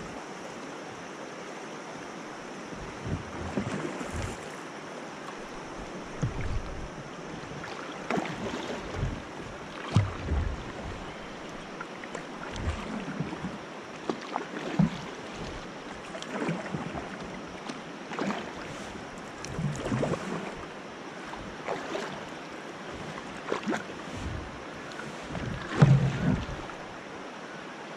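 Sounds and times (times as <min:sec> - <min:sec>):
river current rushing: 0:00.0 - 0:27.9
paddle splashing in water: 0:02.0 - 0:27.2.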